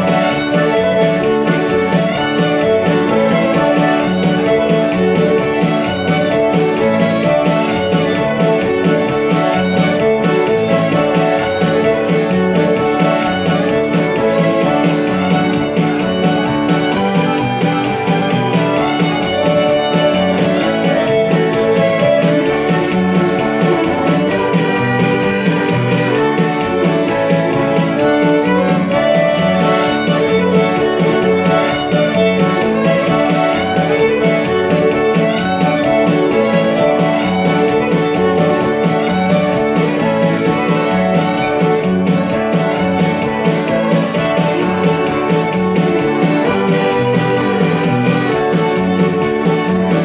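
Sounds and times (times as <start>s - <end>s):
fiddle melody: 0.0s - 50.0s
live polka band: 0.0s - 50.0s.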